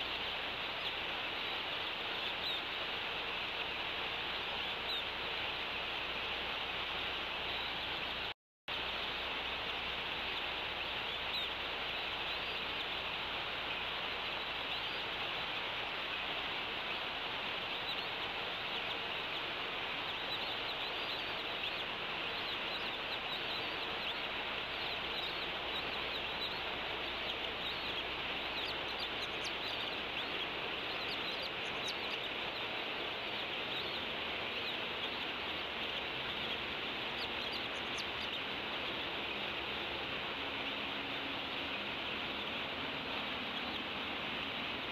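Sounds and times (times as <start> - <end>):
outdoor background hiss: 0.0 - 44.9
small birds chirping: 0.0 - 44.9.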